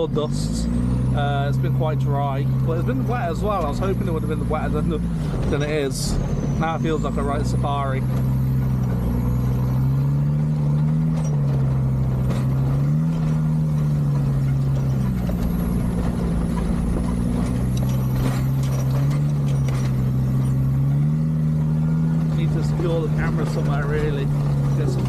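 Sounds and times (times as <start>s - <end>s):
diesel engine at low revs: 0.0s - 25.0s
vehicle knocks and rattles: 3.4s - 25.0s.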